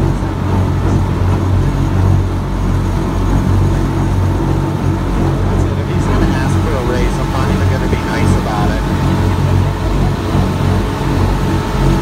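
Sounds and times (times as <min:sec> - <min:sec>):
boat engine droning: 0:00.0 - 0:12.0
rushing water and wake: 0:00.0 - 0:12.0.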